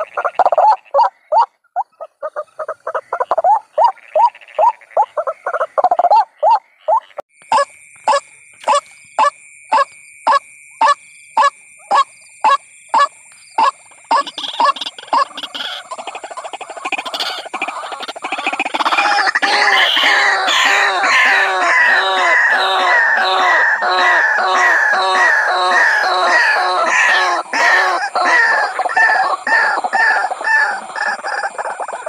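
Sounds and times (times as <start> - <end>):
waterhen calls: 0.0 - 32.0.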